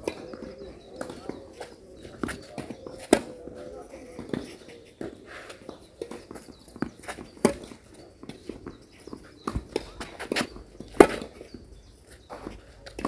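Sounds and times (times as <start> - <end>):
footsteps on clay court: 0.0 - 13.0.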